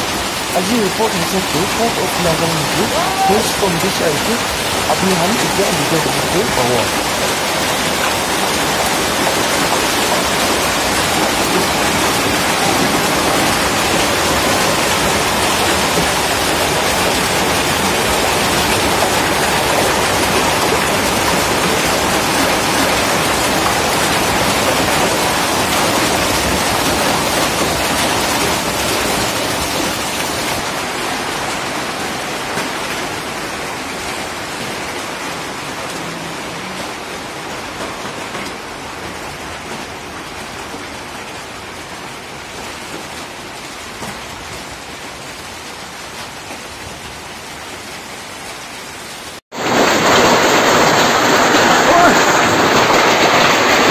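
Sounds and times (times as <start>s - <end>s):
hail and rain pelting down: 0.0s - 53.9s.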